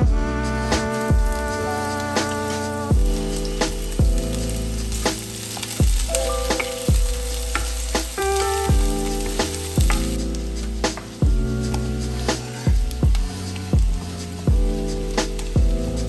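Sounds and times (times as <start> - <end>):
music with bass beat: 0.0 - 16.0
onion sizzling in a pan: 0.2 - 16.0.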